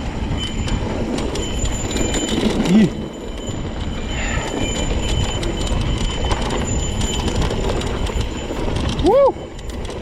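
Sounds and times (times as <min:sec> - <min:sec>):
bike tyres rumbling on dirt: 0:00.0 - 0:10.0
wind on microphone: 0:00.0 - 0:10.0
bike rattling clicks: 0:00.4 - 0:10.0.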